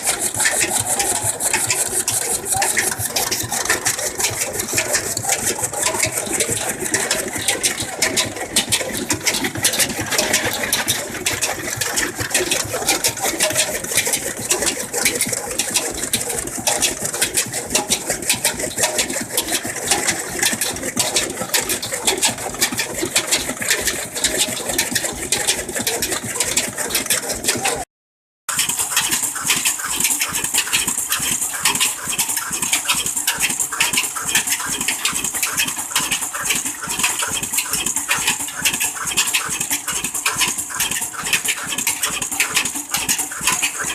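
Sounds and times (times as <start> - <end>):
stationary engine knocking: 0.0 - 27.9, 28.5 - 43.9.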